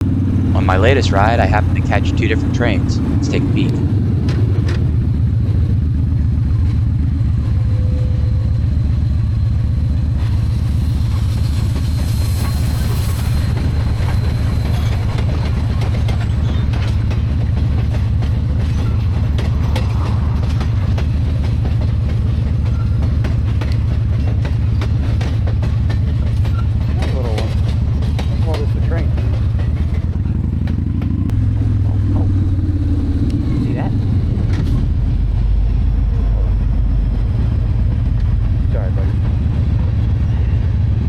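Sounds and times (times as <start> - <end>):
train rumbling past: 0.0 - 41.0
wheels clicking over rail joints: 0.1 - 7.5, 8.7 - 35.8.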